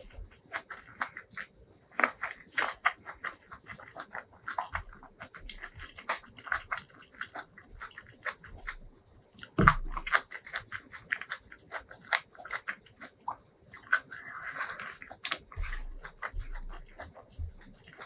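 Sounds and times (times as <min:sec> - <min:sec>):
wet chewing and lip-smacking: 0:00.0 - 0:18.0.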